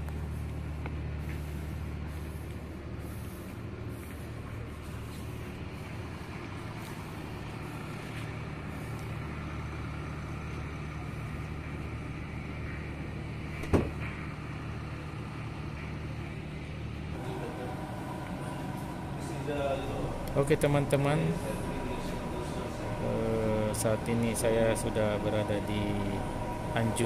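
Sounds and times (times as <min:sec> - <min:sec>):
diesel machinery humming: 0:00.0 - 0:27.0.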